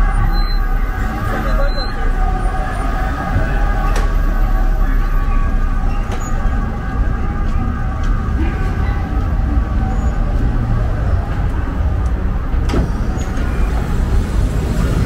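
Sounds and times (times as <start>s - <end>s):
city street traffic: 0.0s - 15.0s
tram rumbling: 0.0s - 15.0s.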